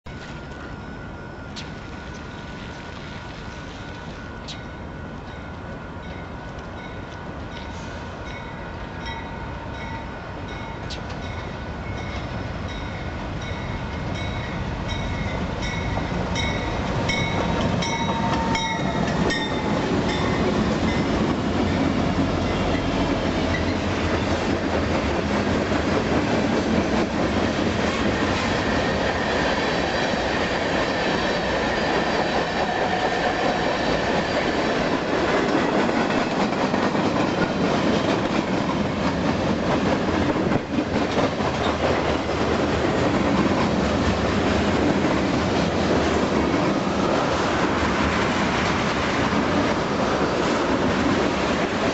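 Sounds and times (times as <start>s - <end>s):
freight train passing: 0.1s - 51.9s
rail clicks: 3.9s - 51.9s.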